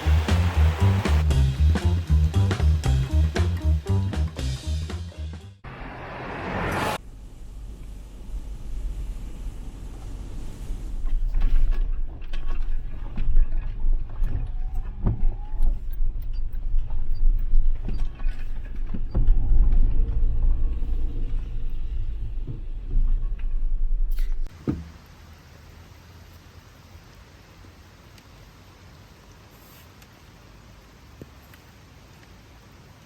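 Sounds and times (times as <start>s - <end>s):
car road and engine rumble: 0.0s - 28.1s.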